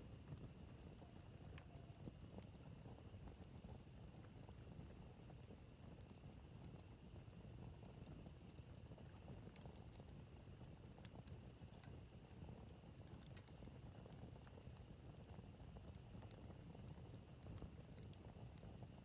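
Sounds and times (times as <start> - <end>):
campfire crackling and popping: 0.0 - 19.0
low fire rumble: 0.0 - 19.0.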